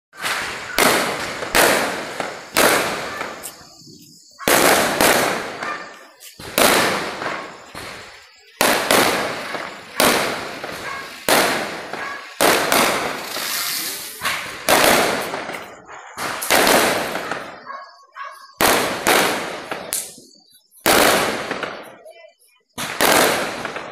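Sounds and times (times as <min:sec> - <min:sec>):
firecrackers banging: 0:00.1 - 0:17.8, 0:18.4 - 0:23.9.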